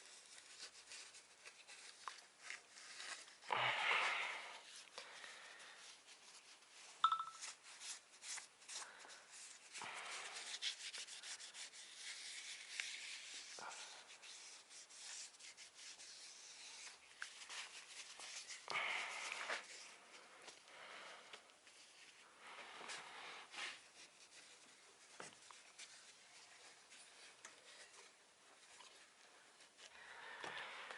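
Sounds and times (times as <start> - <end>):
faint rubbing and scraping: 0.0 - 30.9.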